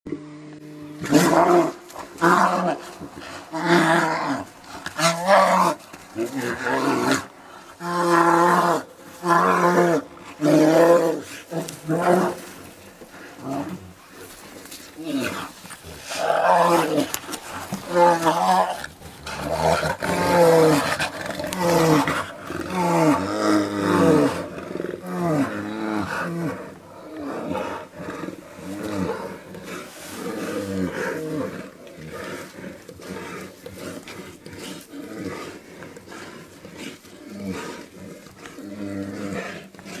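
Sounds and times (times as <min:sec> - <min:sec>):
bears roaring and growling: 0:00.1 - 0:40.0.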